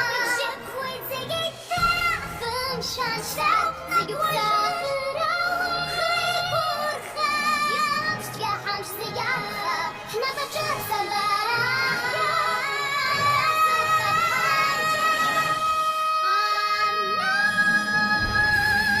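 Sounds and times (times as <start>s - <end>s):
musical accompaniment: 0.0s - 19.0s
women singing a duet: 0.0s - 19.0s.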